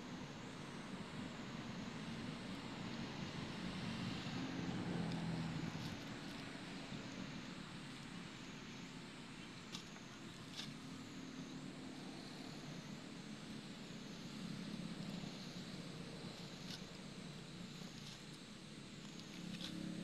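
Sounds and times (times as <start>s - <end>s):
faint high whine: 0.0s - 20.0s
low rumble and hiss: 0.0s - 20.0s.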